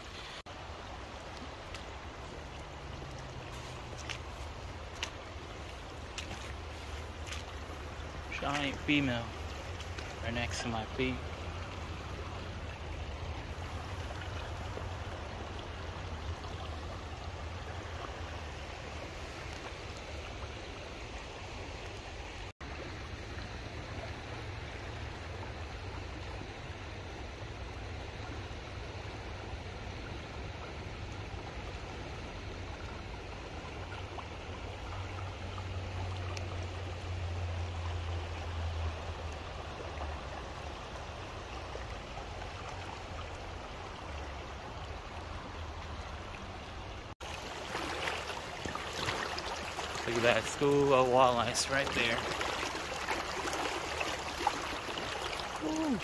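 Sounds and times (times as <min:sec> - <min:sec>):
river water rushing over rocks: 0:00.0 - 0:26.2, 0:30.5 - 0:56.0.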